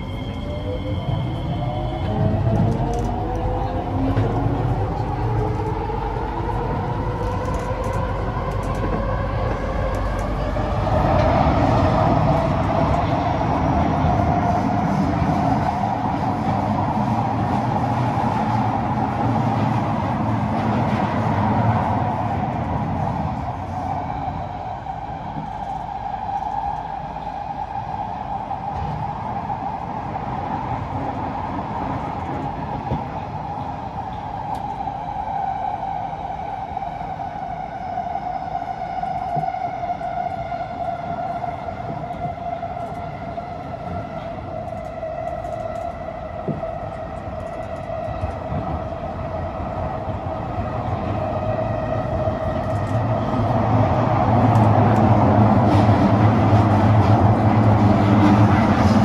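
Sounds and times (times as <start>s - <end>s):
metro car running rumble: 0.0s - 59.0s.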